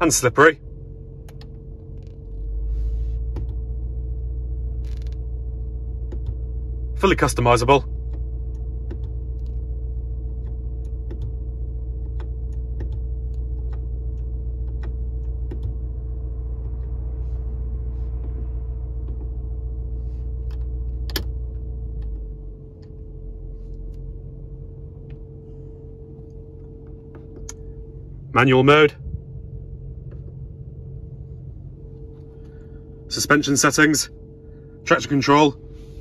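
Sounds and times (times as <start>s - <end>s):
car engine idling: 0.0s - 36.0s
steady hum: 0.0s - 36.0s.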